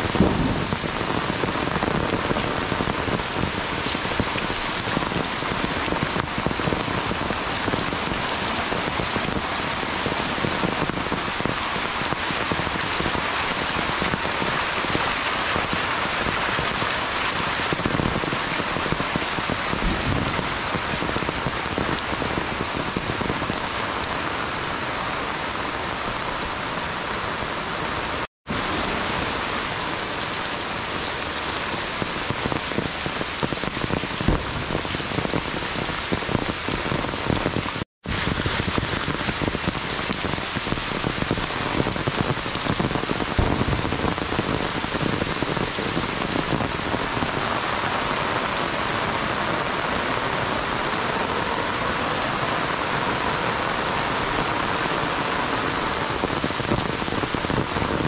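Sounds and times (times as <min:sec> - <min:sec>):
heavy rain on trees and road: 0:00.0 - 0:58.0.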